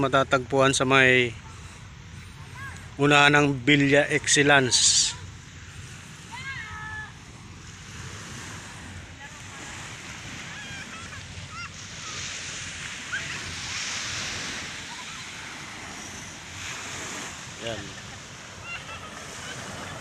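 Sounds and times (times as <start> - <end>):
surf washing on sandy shore: 0.0 - 20.0.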